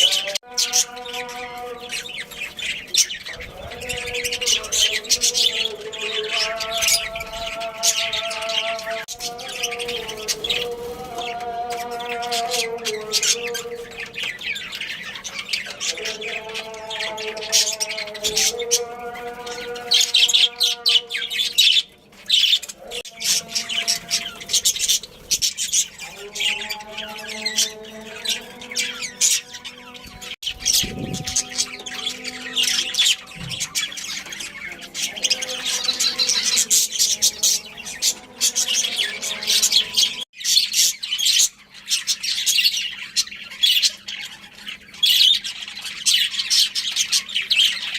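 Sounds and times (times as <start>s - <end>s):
budgerigars chattering: 0.0s - 47.9s.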